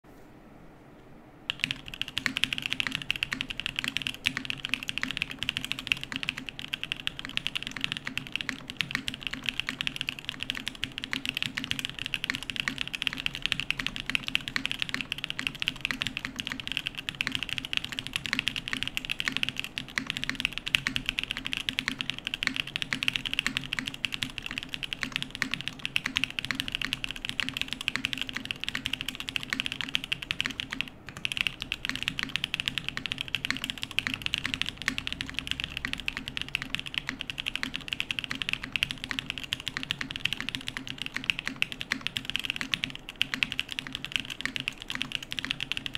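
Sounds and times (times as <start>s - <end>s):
fast mechanical keyboard typing: 1.5s - 45.9s.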